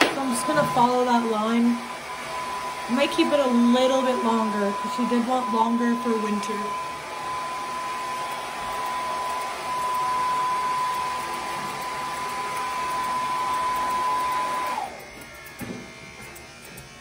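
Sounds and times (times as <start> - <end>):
blow dryer running: 0.0 - 17.0.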